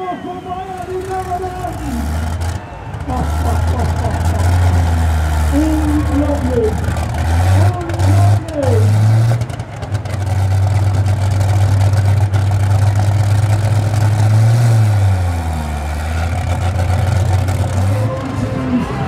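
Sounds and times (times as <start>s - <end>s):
diesel tractor engine running: 0.0s - 19.0s.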